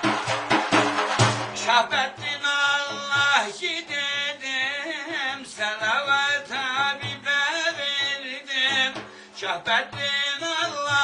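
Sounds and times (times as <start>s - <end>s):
light steady drum beat: 0.0s - 11.0s
man singing a devotional hymn: 1.6s - 11.0s.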